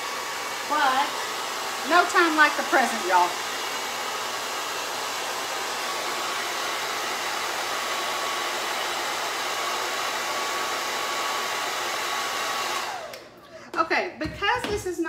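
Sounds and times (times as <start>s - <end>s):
hair dryer blowing: 0.0s - 13.4s.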